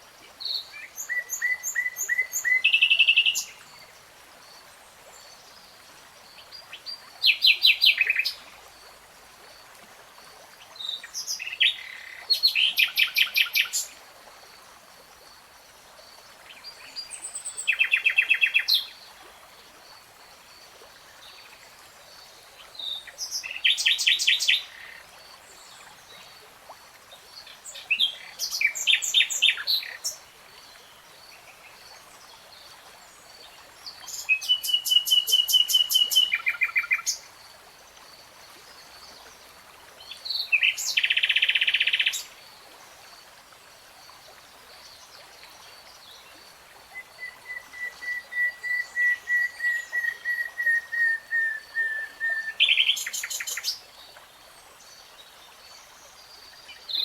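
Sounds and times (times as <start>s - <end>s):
faint background hiss: 0.0s - 57.0s.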